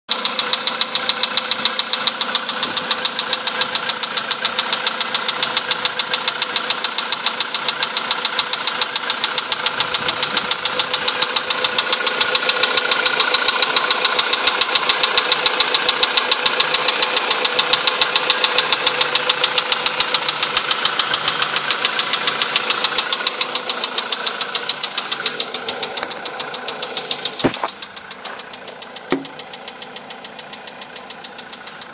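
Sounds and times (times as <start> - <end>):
engine idling with metallic knocking: 0.1 - 31.9.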